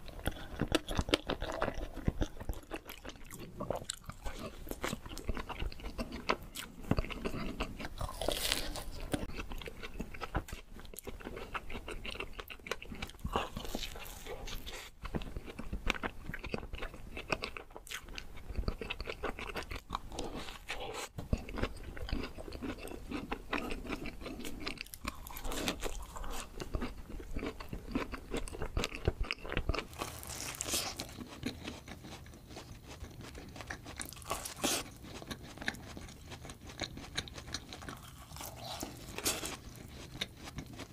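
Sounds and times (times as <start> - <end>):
chewing and wet mouth sounds: 0.0 - 40.9.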